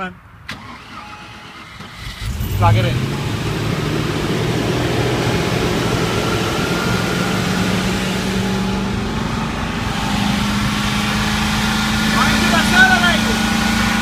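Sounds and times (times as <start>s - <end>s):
petrol engine running fast: 2.0s - 14.0s.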